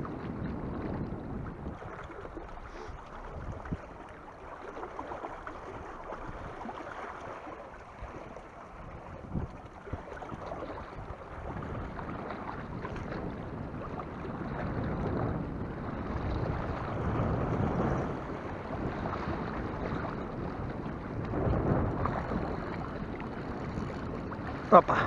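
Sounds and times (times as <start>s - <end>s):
sea waves washing: 0.0s - 25.0s
wind rumbling on microphone: 0.0s - 25.0s.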